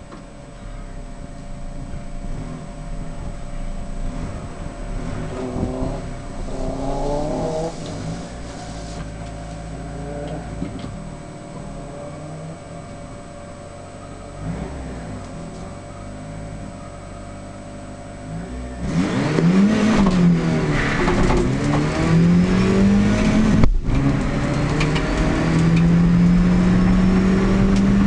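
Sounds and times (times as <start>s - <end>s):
car engine revving and idling: 0.0s - 28.0s.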